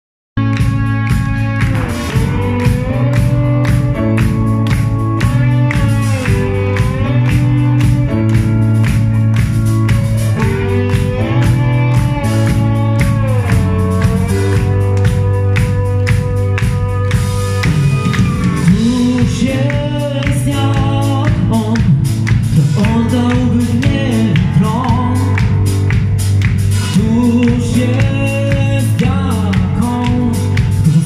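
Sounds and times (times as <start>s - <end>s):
guitar chords with sliding notes: 0.4s - 31.0s
steady drum beat: 0.4s - 31.0s.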